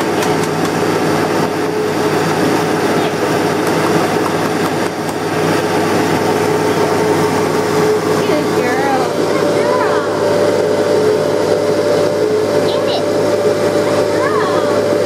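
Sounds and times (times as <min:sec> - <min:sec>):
vacuum cleaner motor running: 0:00.0 - 0:15.0.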